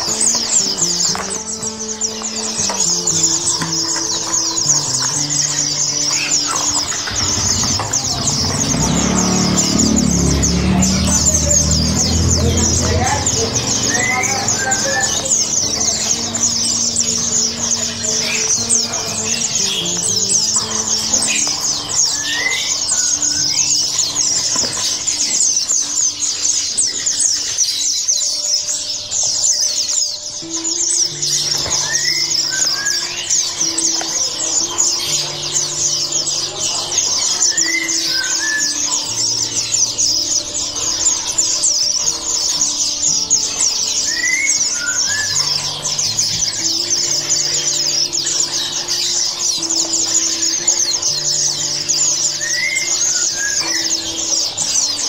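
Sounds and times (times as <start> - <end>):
background music of low notes: 0.0 - 55.0
songbirds twittering and chirping: 0.0 - 55.0
rising whistled bird call: 2.9 - 26.2, 29.5 - 55.0.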